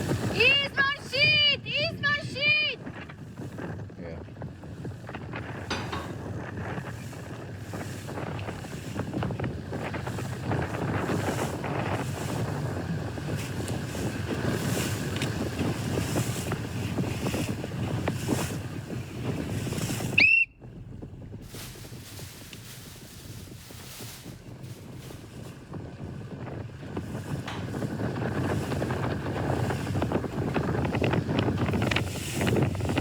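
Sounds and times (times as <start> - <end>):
wind buffeting microphone: 0.0 - 33.0
water rushing past boat: 5.5 - 33.0.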